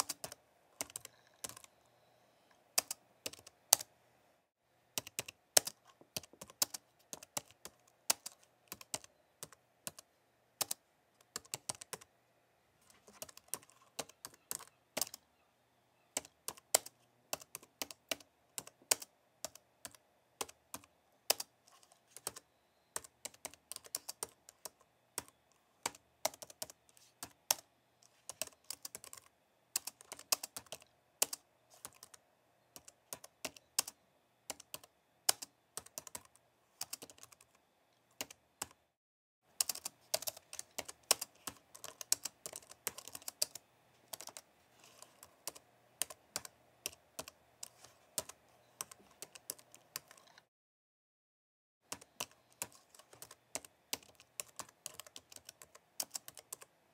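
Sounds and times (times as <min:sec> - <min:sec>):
keyboard typing: 0:00.0 - 0:03.9, 0:05.0 - 0:12.1, 0:12.8 - 0:15.2, 0:16.1 - 0:37.6, 0:38.2 - 0:38.8, 0:39.5 - 0:50.5, 0:51.9 - 0:56.7.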